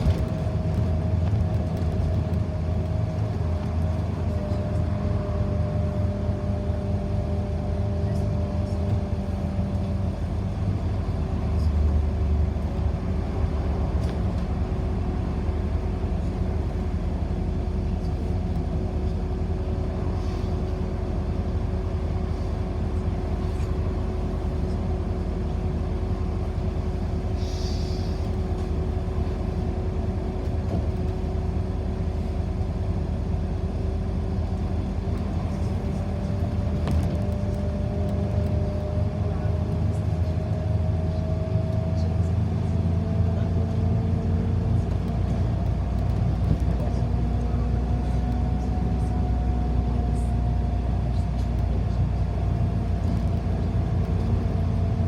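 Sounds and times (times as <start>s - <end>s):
bus engine rumble: 0.0s - 55.0s
bus whine: 0.0s - 55.0s.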